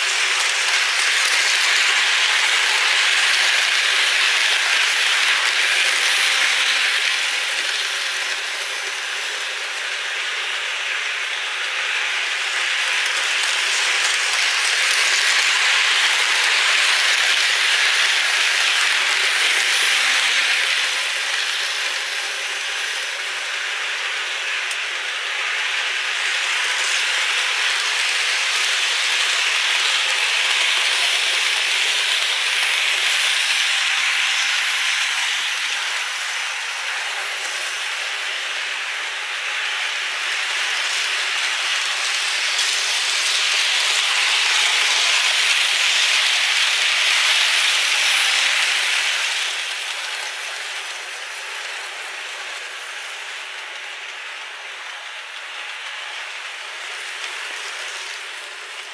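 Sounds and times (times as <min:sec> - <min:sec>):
model train rolling on track: 0:00.0 - 0:58.9.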